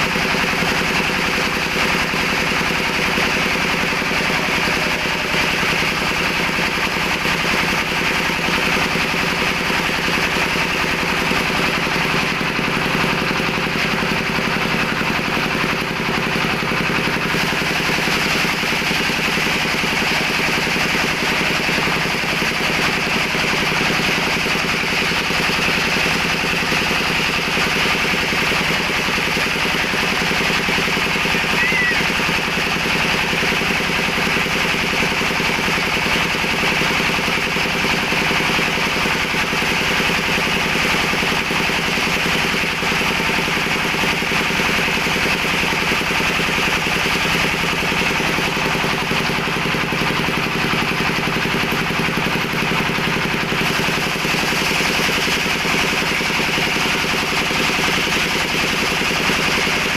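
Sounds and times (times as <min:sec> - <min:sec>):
machine running with rattle and hum: 0:00.0 - 0:59.9.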